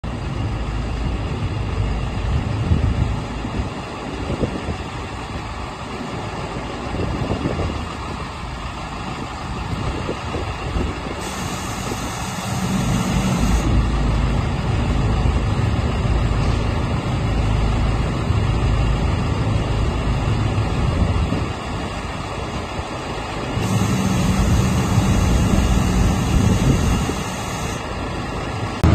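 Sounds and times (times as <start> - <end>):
concrete mixer engine running: 0.1 - 28.9.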